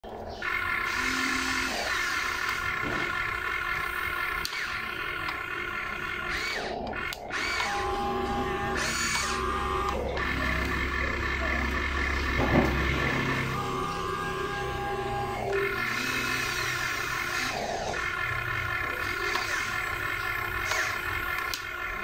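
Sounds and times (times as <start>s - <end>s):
small electric motors whining: 0.1s - 22.0s.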